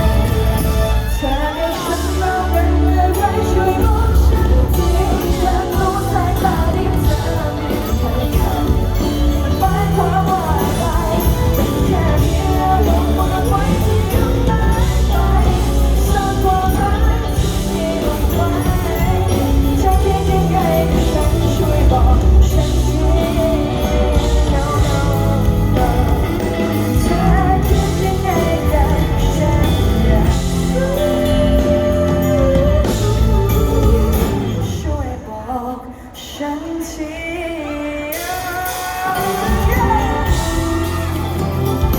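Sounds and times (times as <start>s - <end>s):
live pop band with heavy bass: 0.0s - 41.9s
person singing: 0.0s - 41.9s.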